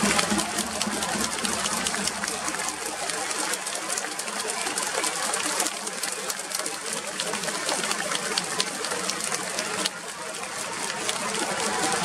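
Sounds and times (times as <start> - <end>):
short sharp claps: 0.0 - 10.0
crowd voices and cheering: 0.0 - 12.0.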